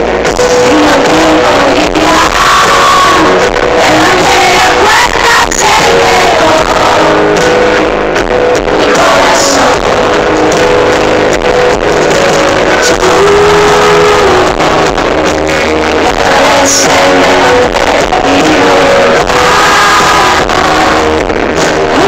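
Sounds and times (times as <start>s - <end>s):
acoustic guitar: 0.0s - 22.0s
live pop band: 0.0s - 22.0s.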